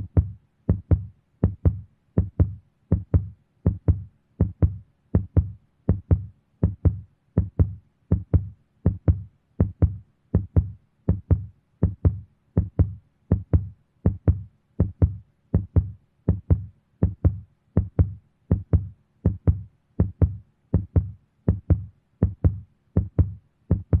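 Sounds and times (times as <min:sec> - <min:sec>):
heartbeat thumping: 0:00.0 - 0:24.0.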